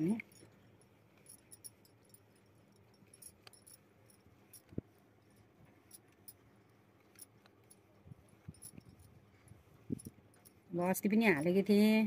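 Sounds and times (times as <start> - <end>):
faint clicks and rustles of yarn: 0.0 - 12.0.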